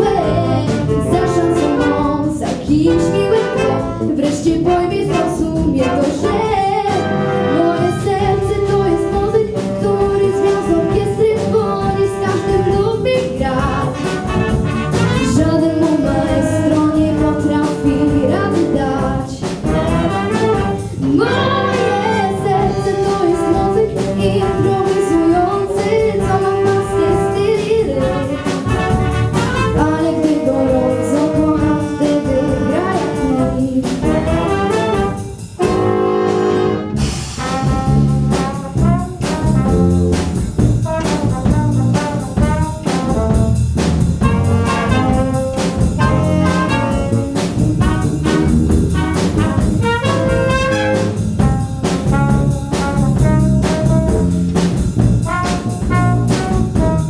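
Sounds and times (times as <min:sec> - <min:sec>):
jazz big band playing: 0:00.0 - 0:57.0
steady drum beat: 0:00.0 - 0:57.0.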